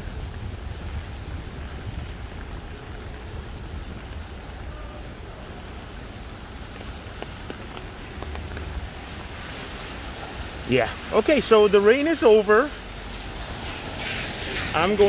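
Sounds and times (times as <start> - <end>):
light rain on wet street: 0.0 - 15.0.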